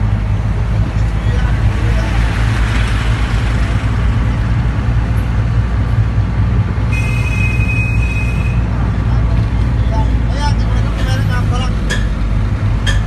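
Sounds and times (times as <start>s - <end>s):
vehicle cabin engine rumble: 0.0s - 13.0s.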